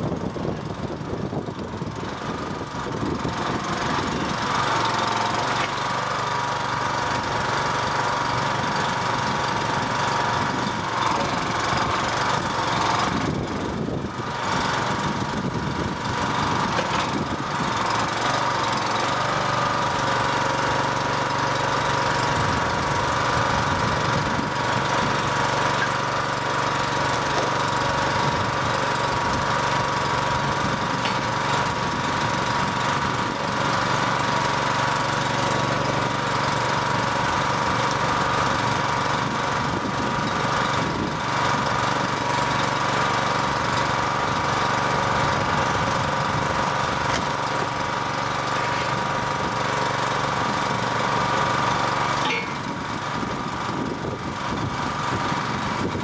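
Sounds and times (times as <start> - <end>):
constant whine: 0.0 - 56.0
small gasoline engine running: 0.0 - 56.0.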